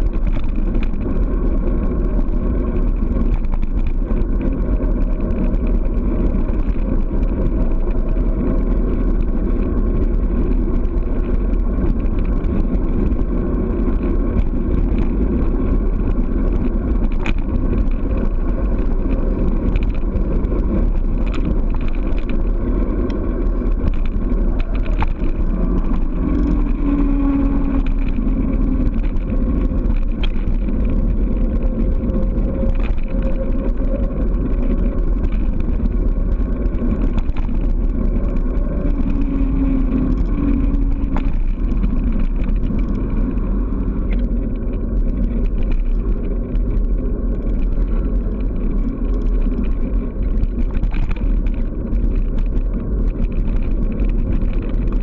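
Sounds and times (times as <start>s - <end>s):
bicycle tyres on asphalt: 0.0s - 55.0s
small knocks from road bumps: 0.0s - 55.0s
wind buffeting microphone: 0.0s - 55.0s.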